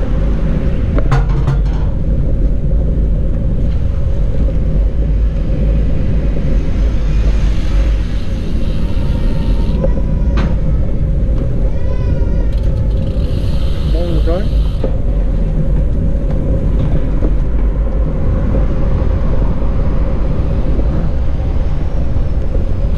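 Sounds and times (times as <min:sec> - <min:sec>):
steady hum: 0:00.0 - 0:22.9
wind rumbling on microphone: 0:00.0 - 0:22.9.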